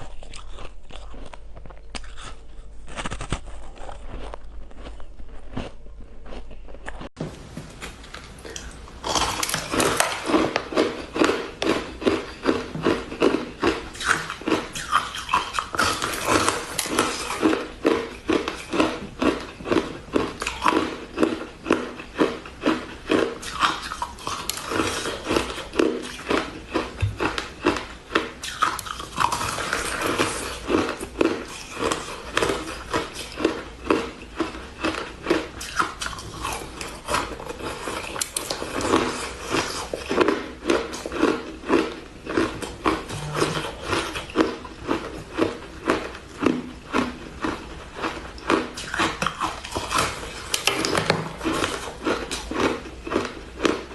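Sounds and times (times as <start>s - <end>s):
chewing crunchy shaved ice: 0.0s - 7.2s, 8.4s - 53.9s.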